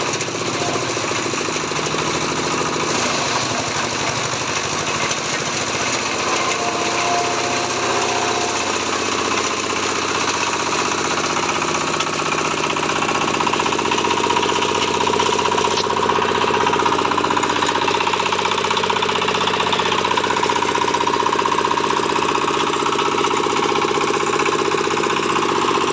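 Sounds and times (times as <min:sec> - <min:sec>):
engine-driven grinder running: 0:00.0 - 0:25.9.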